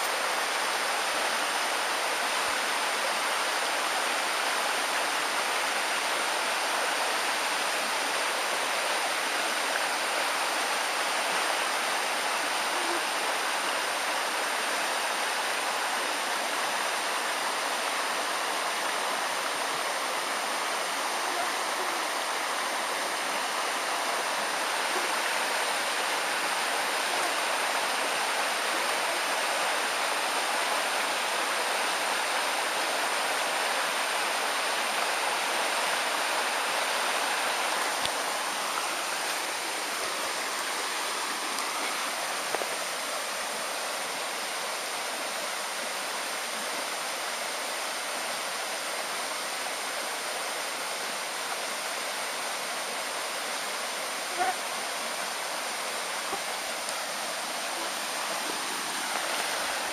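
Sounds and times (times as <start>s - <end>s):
creek rushing over rocks: 0.0s - 59.9s.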